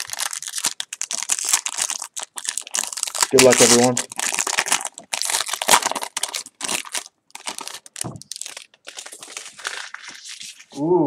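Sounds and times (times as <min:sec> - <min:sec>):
wrapper tearing and crinkling: 0:00.0 - 0:10.7.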